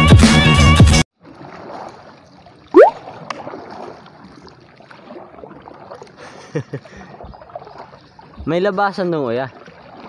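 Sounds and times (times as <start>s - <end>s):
faint water noise: 1.2s - 10.0s.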